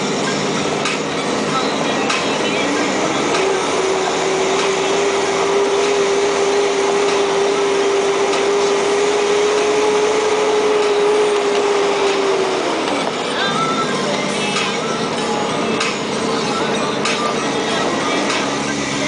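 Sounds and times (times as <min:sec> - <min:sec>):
road and gravel noise: 0:00.0 - 0:19.0
truck engine whine: 0:00.0 - 0:19.0.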